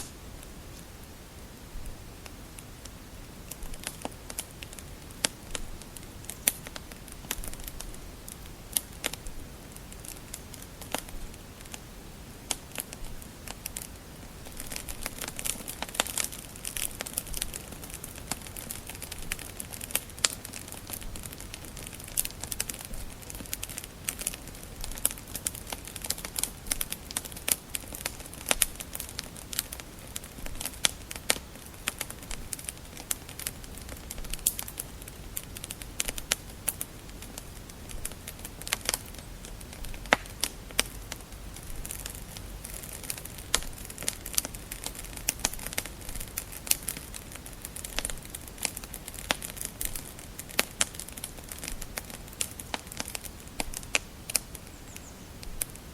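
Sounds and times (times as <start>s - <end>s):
faint steady hiss: 0.0s - 55.9s
wood fire crackling and popping: 0.0s - 55.9s.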